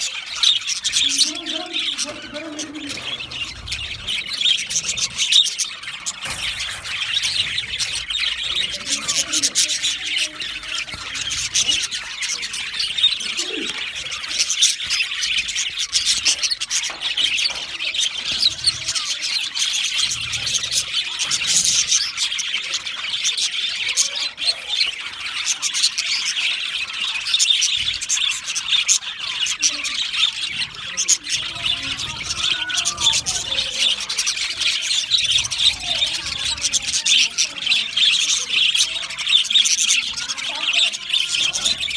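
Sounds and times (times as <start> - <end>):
budgerigars chattering and chirping: 0.0 - 41.9.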